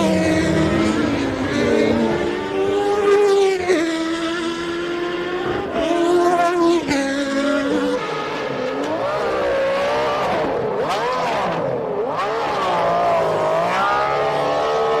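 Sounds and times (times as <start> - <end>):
race car engines at high revs: 0.0 - 15.0.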